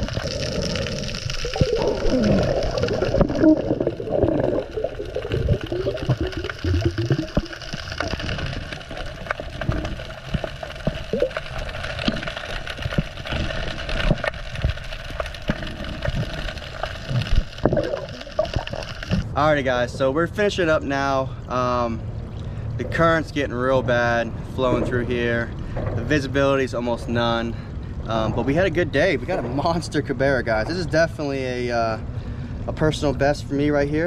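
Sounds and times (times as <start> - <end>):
water gurgling and sloshing: 0.0 - 34.0.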